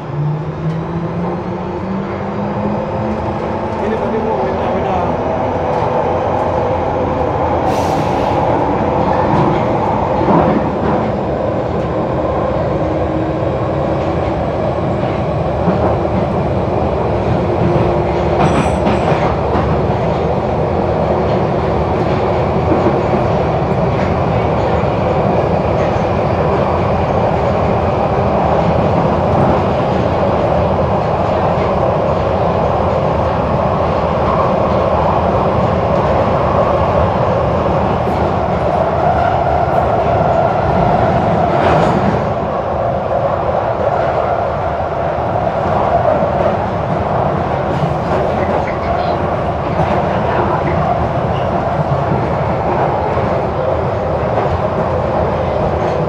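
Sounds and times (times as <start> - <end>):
train running through tunnel: 0.0 - 56.0.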